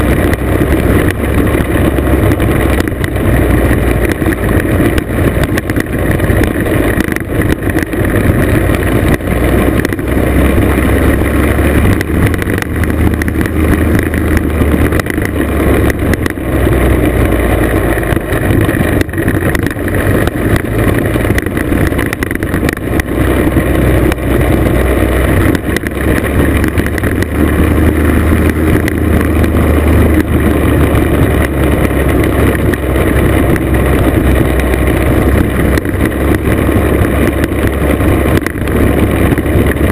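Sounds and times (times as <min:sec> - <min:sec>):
heavy low rumble: 0:00.0 - 0:39.9
scooter engine running: 0:00.0 - 0:39.9
tyres on gravel road: 0:00.0 - 0:39.9.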